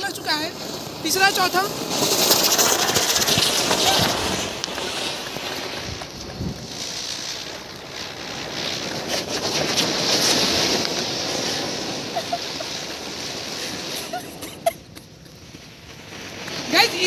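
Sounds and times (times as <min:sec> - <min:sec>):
fountain fireworks hissing: 0:00.0 - 0:17.0
sharp crack: 0:00.0 - 0:17.0.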